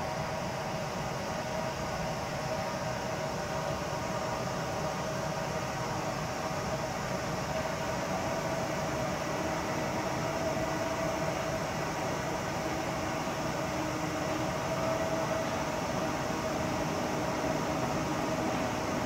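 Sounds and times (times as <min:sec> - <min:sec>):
freight train rumble: 0:00.0 - 0:19.0
steady hum: 0:00.0 - 0:19.0.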